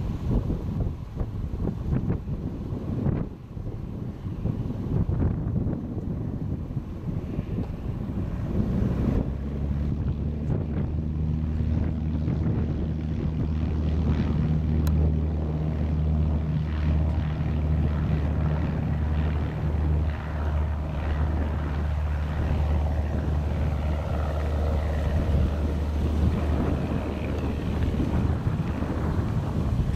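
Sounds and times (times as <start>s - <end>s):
propeller plane engine drone: 0.0s - 29.9s.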